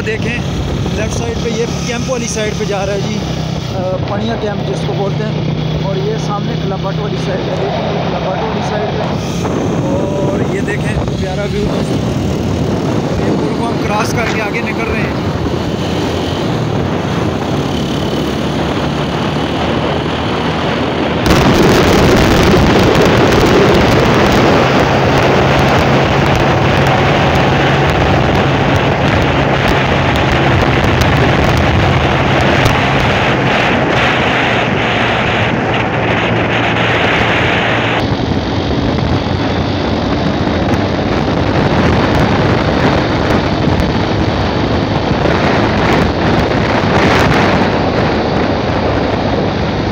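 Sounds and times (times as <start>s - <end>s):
motorcycle engine hum: 0.0s - 49.9s
wind rushing over microphone: 0.0s - 49.9s.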